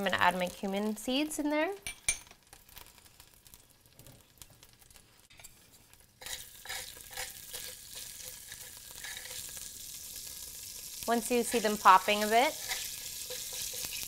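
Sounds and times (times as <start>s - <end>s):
seeds sizzling in hot oil: 0.0s - 14.0s
sharp crackles: 2.4s - 14.0s.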